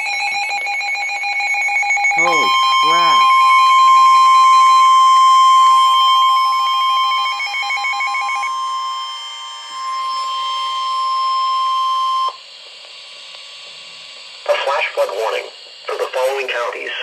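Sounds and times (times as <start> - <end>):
rapid pulsing beep: 0.0 - 12.4, 14.5 - 16.9
steady warning alarm tone: 0.0 - 17.0.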